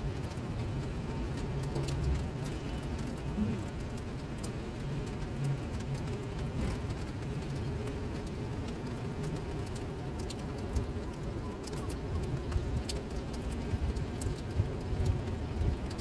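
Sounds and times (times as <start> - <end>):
low steady rumble: 0.0 - 16.0
rain on paved surface: 0.0 - 16.0
small drip clicks: 0.0 - 16.0.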